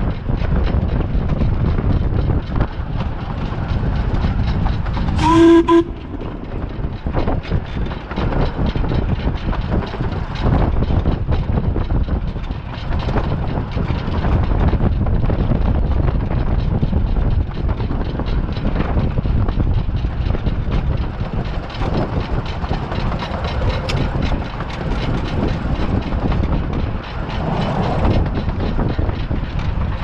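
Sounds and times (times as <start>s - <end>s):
steam locomotive running on track: 0.0s - 30.0s.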